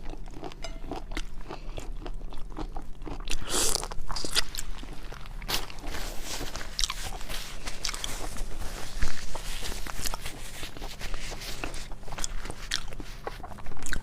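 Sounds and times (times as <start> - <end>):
crunching and chewing seafood: 0.0 - 14.0.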